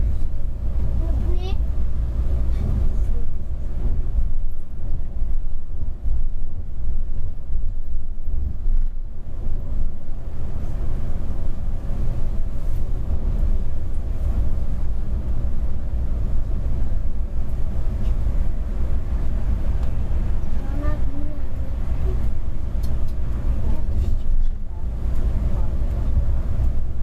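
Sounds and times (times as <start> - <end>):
coach engine and road rumble: 0.0 - 27.0.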